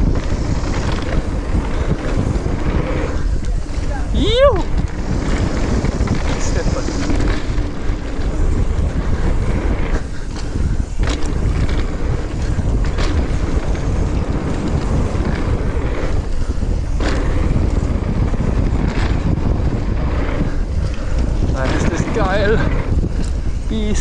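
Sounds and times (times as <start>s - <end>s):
bike tyre and frame rattle: 0.0s - 24.0s
wind buffeting microphone: 0.0s - 24.0s.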